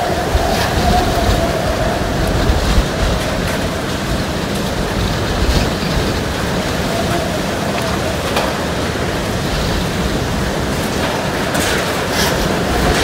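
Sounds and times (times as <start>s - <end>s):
strong wind blowing: 0.0s - 13.0s.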